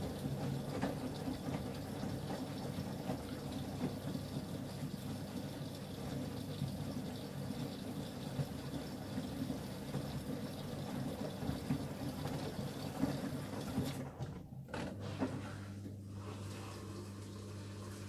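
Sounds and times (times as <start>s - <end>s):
washing machine motor hum: 0.0s - 18.0s
water sloshing in washing machine: 0.0s - 18.0s.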